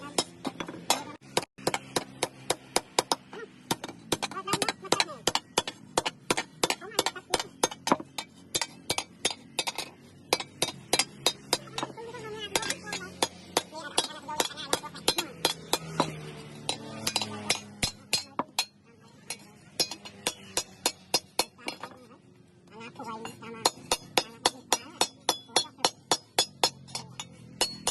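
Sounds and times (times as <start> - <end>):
hammer striking steel on anvil: 0.1 - 22.0, 23.2 - 27.9.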